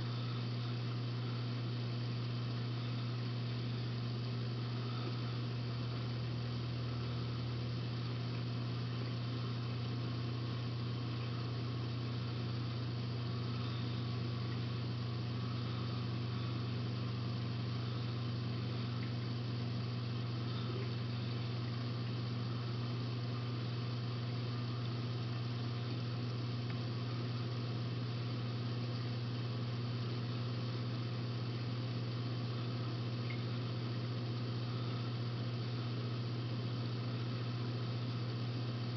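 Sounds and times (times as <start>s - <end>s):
aquarium pumps humming: 0.0s - 38.9s
hiss of moving water: 0.0s - 38.9s.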